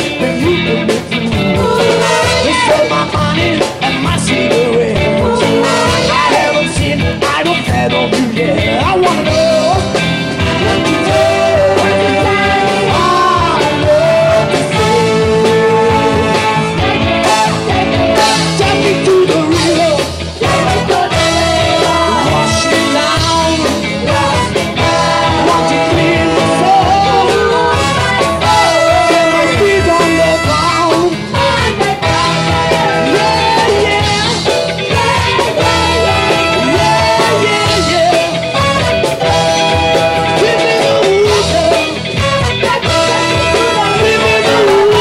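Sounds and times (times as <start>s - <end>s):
brass section: 0.0s - 7.8s, 8.8s - 45.0s
person singing: 0.0s - 45.0s
soul band playing: 0.0s - 45.0s.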